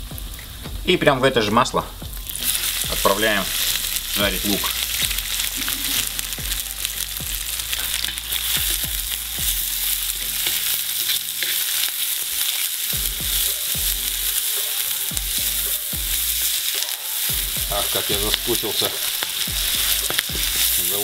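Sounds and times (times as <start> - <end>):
onions sizzling in oil: 0.0 - 21.0
wooden spatula stirring in pan: 2.3 - 21.0.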